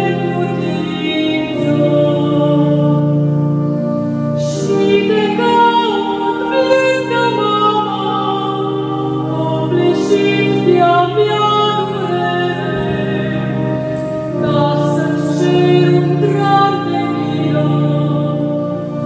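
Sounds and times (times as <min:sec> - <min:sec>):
organ sustained chords: 0:00.0 - 0:19.0
person singing: 0:00.0 - 0:19.0.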